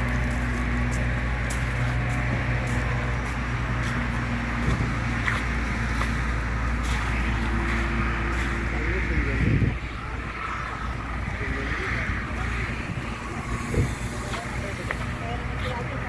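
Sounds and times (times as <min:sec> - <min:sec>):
engine running close by: 0:00.0 - 0:16.0
traffic hum: 0:00.0 - 0:16.0.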